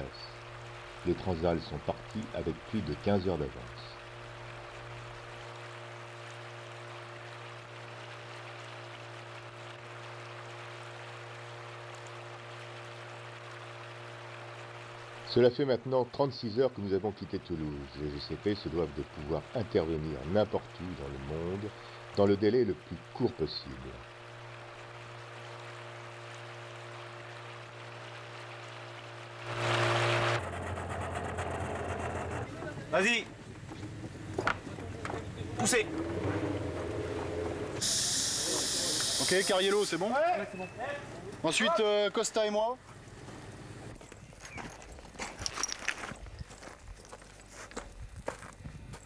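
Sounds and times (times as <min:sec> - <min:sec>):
water rushing along hull: 0:00.0 - 0:15.5, 0:18.4 - 0:42.5
outboard engine drone: 0:00.0 - 0:41.5.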